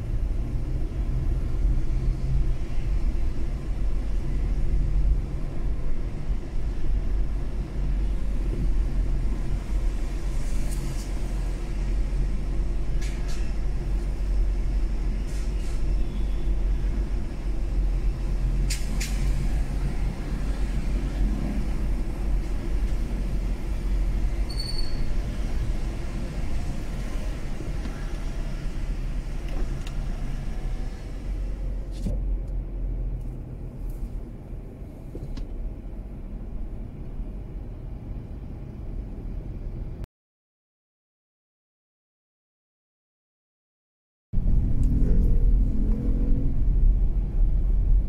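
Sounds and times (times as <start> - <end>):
car road and engine rumble: 0.0 - 40.1, 44.4 - 48.0.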